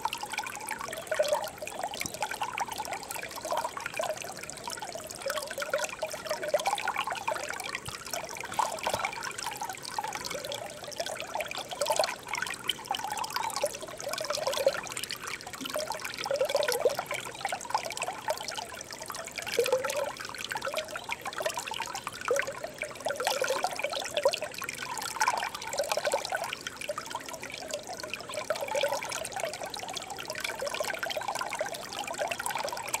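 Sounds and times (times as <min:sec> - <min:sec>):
stream trickling over stones: 0:00.0 - 0:33.0.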